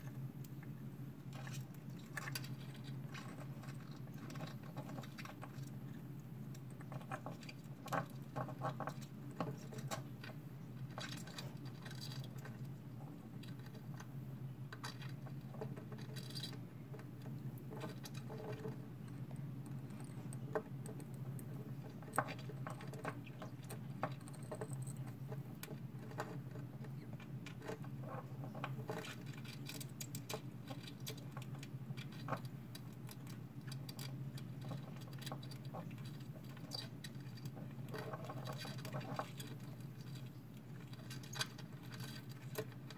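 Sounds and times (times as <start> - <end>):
hermit crabs scrabbling in sand: 0.0 - 42.9
steady low hum: 0.0 - 42.9.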